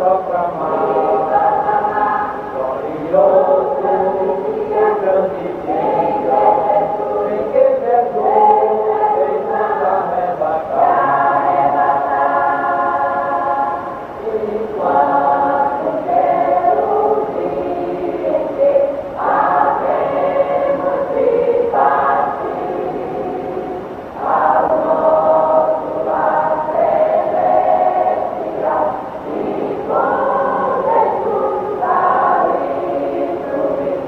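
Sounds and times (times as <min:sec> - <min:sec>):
mixed choir singing a hymn: 0:00.0 - 0:34.0.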